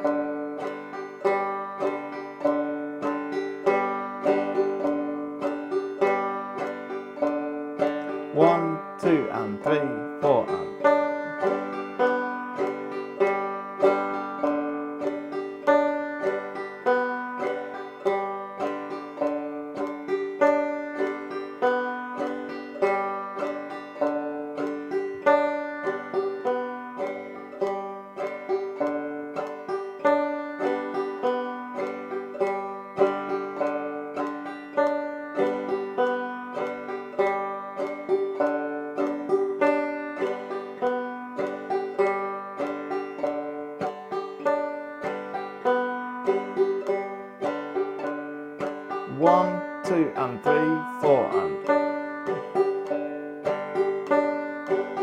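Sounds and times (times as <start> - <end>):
banjo frailing strum: 0.0 - 55.0.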